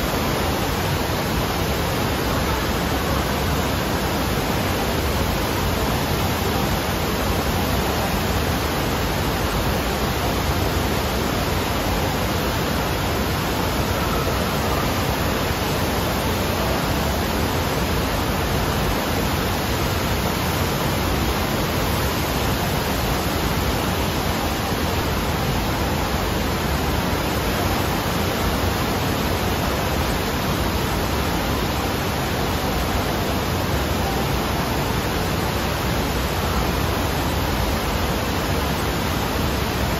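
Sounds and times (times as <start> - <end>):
water rushing roar: 0.0 - 39.9.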